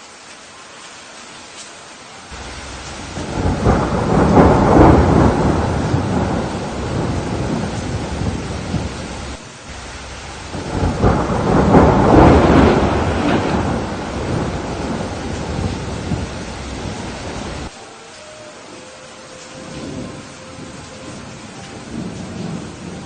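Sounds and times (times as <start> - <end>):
steady rain: 0.0 - 23.0
rolling thunder: 2.3 - 17.7, 19.6 - 23.0.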